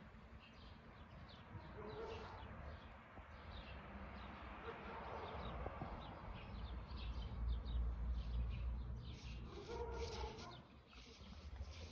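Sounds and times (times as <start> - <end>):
small birds chirping: 0.0 - 4.6, 5.2 - 11.9.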